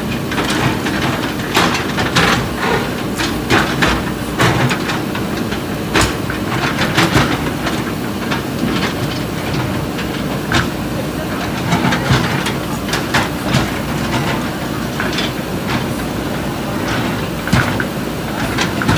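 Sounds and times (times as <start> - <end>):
diesel engine running under load: 0.0 - 18.9
bucket clanking on concrete: 0.5 - 18.9.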